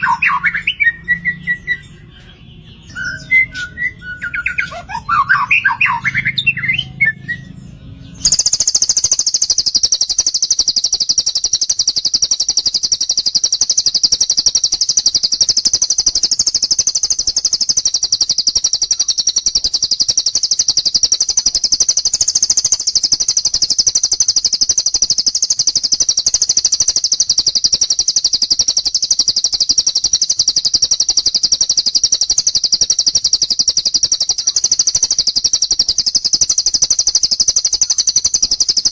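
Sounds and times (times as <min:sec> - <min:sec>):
bird chirps: 0:00.0 - 0:38.9
high rapid bird trill: 0:00.0 - 0:38.9.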